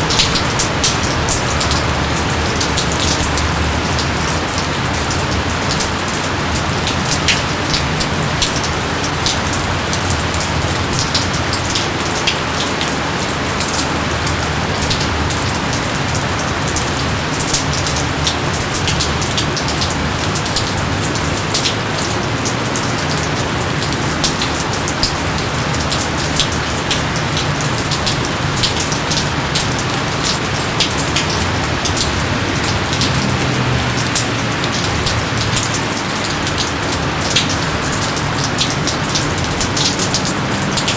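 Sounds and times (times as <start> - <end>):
heavy rain on foliage: 0.0 - 40.9.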